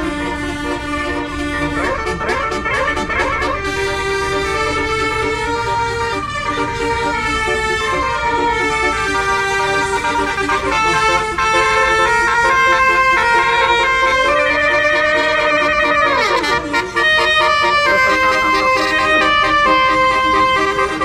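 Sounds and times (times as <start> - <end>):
bus air horn playing tune: 0.0 - 21.0.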